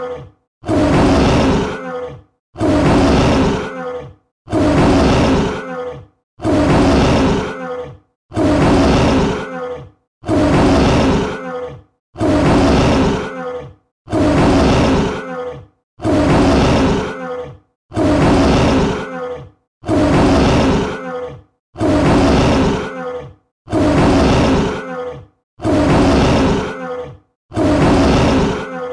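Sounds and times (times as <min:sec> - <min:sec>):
tiger roaring: 0:00.6 - 0:11.6, 0:12.2 - 0:21.2, 0:21.8 - 0:23.0, 0:23.7 - 0:24.9, 0:25.6 - 0:26.8, 0:27.5 - 0:28.9.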